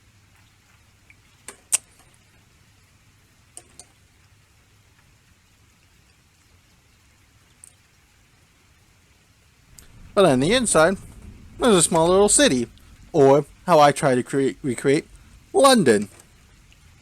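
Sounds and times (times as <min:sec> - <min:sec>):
low room hiss: 0:00.0 - 0:17.0.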